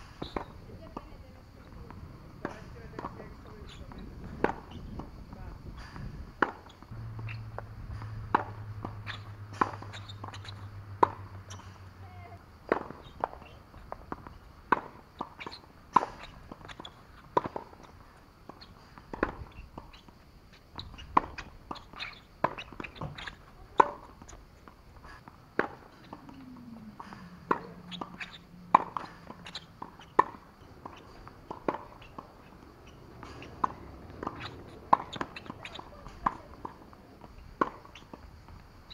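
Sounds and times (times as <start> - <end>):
tennis ball struck by racket: 0.1 - 5.2, 5.9 - 11.9, 12.6 - 38.3
tennis ball bouncing on court: 0.1 - 5.6, 6.3 - 38.9.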